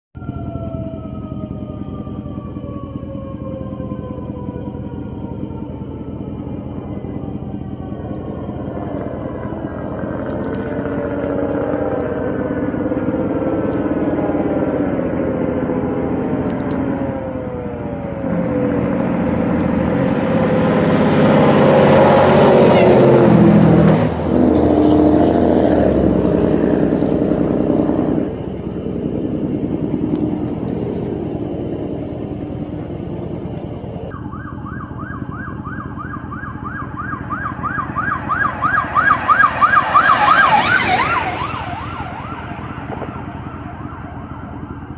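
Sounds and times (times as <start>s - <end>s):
emergency vehicle siren yelp: 0.2s - 44.9s
engine and road noise: 0.2s - 44.9s
fire engine siren wailing: 0.2s - 44.9s.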